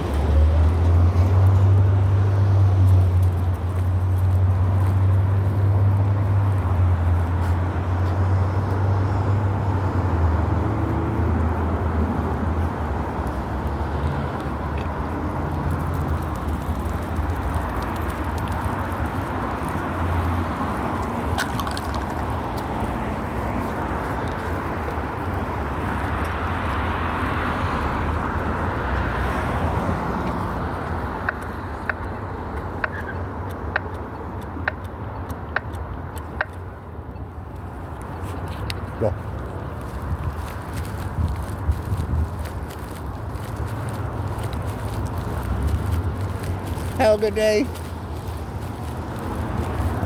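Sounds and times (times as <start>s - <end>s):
vehicle engine rumble: 0.0s - 50.0s.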